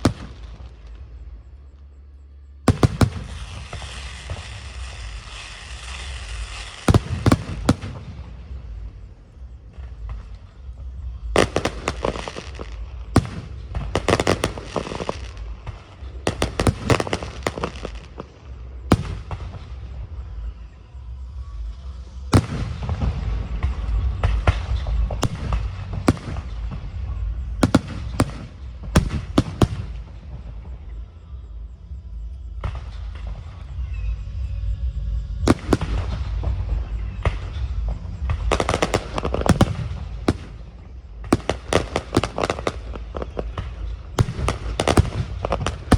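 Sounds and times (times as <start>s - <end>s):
loud firework booms: 0.0s - 1.0s, 2.7s - 9.1s, 9.7s - 20.5s, 22.3s - 31.0s, 35.4s - 45.9s
fireworks crackling: 0.0s - 2.0s, 2.6s - 34.6s, 35.2s - 45.9s.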